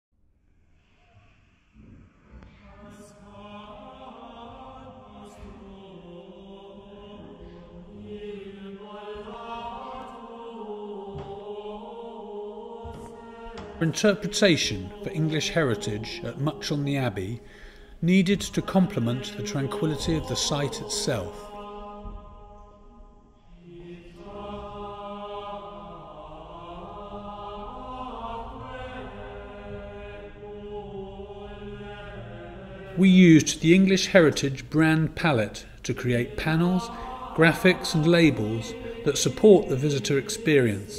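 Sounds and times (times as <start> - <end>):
slow choral singing: 0.8 - 40.9.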